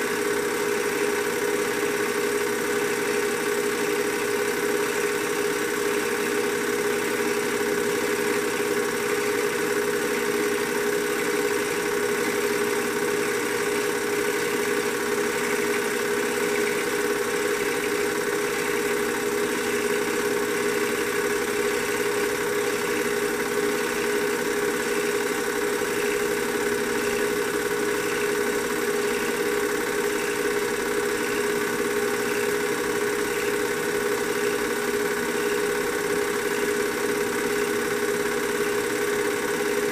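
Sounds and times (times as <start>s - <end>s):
small motor humming: 0.0s - 39.9s.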